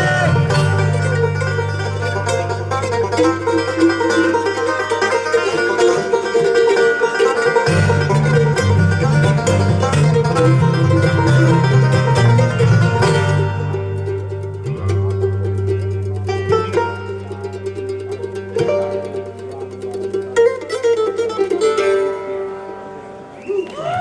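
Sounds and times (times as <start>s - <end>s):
bass line: 0.0s - 20.8s
acoustic string band playing: 0.0s - 24.0s
quick plucked notes: 0.0s - 24.0s.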